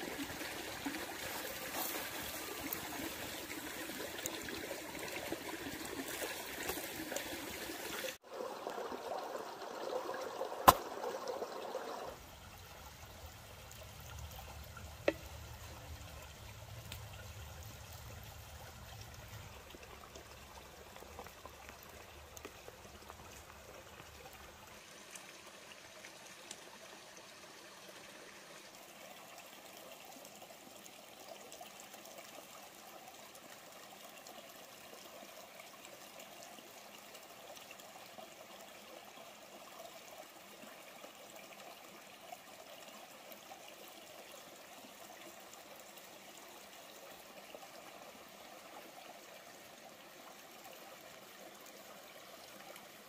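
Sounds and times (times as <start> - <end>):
water trickling over stones: 0.0 - 53.0.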